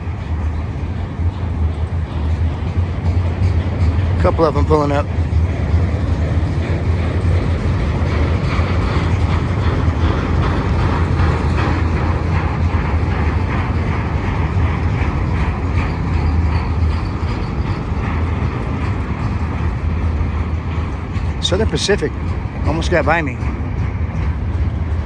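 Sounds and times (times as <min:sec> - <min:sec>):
freight train wheels rumbling: 0:00.0 - 0:25.0
faint rail clicks: 0:00.1 - 0:25.0.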